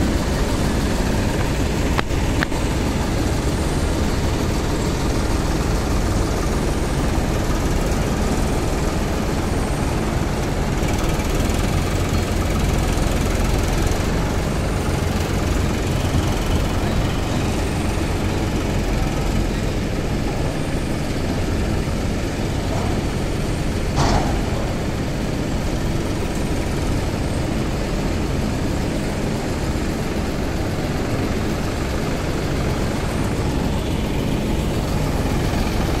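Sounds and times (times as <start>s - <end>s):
diesel tractor engine running: 0.0s - 36.0s.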